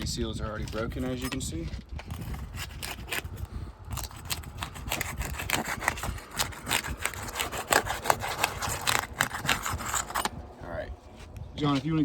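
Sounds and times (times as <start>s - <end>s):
roofing tool scraping shingles: 0.5s - 10.4s.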